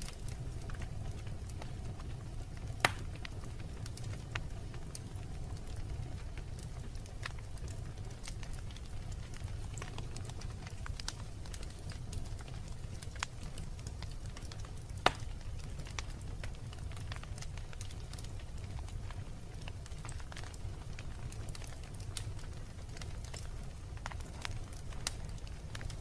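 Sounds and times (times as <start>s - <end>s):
low rumble of flames: 0.0s - 26.0s
wood fire crackling and popping: 0.0s - 26.0s.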